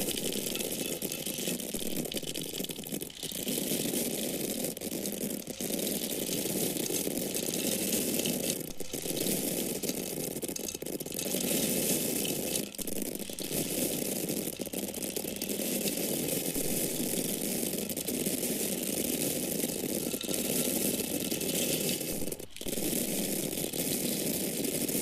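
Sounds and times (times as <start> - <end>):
grains pouring with hard clicks: 0.0 - 25.0.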